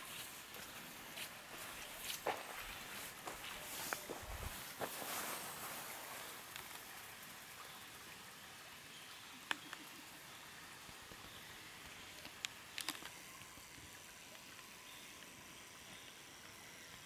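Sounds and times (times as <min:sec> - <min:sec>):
brook trickling over stones: 0:00.0 - 0:17.0.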